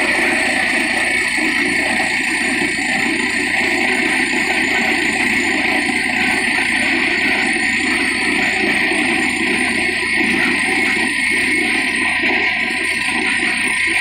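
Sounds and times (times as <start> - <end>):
drilling rig roaring: 0.0 - 14.0.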